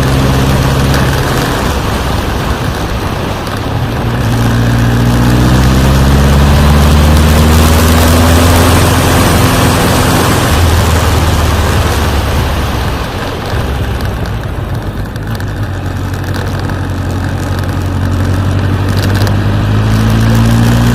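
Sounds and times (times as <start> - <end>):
motorcycle engine under load: 0.0 - 20.9
wind noise: 0.0 - 20.9.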